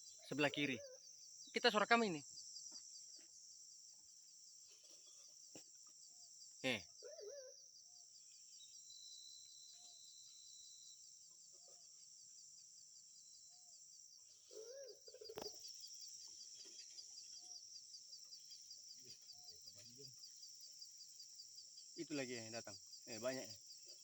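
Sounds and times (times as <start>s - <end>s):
soft bird calls: 0.0s - 12.1s, 13.0s - 24.0s
insect chirring: 0.0s - 24.0s.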